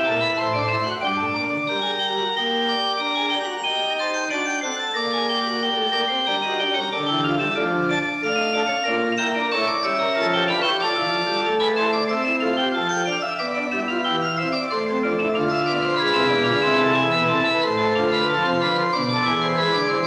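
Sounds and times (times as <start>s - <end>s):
church pipe organ playing: 0.0s - 20.0s.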